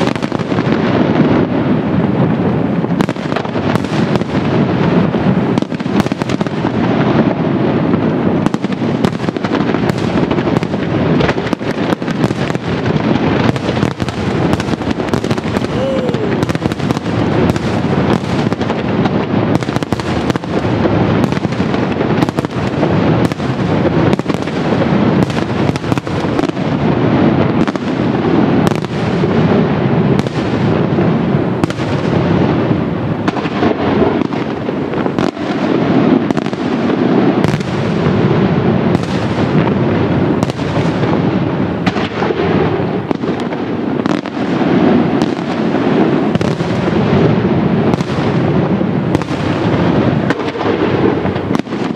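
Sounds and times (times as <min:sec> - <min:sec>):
fireworks bursts and bangs: 0:00.0 - 0:51.9.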